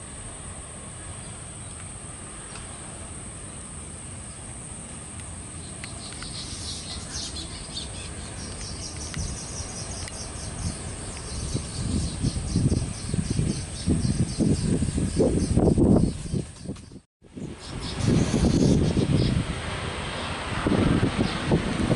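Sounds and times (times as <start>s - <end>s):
insects chirping: 0.7s - 19.4s.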